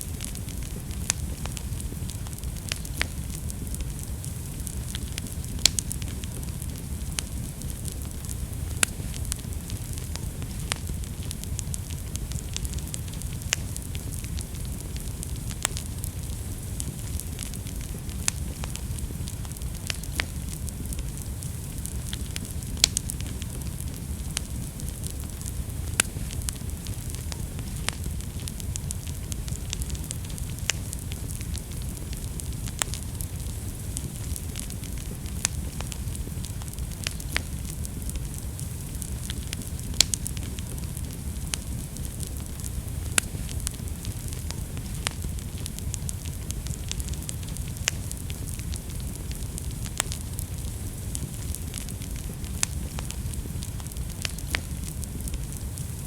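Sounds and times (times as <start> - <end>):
fire flames rumbling: 0.0 - 56.0
wood fire crackling and popping: 0.0 - 56.0.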